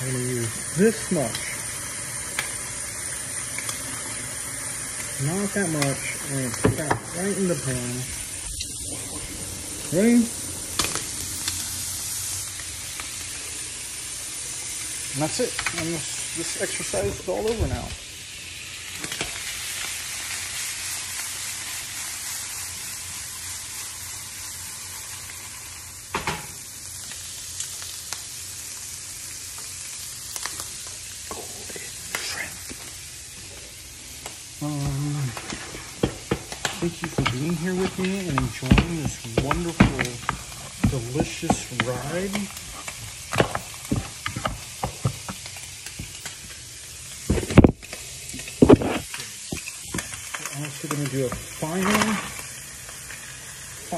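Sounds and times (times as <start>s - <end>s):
shrimp sizzling in a pan: 0.0s - 53.9s.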